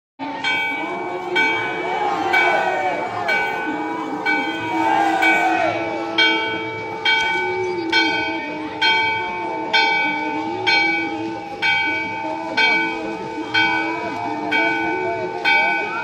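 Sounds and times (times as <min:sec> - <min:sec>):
temple bell ringing: 0:00.2 - 0:16.0.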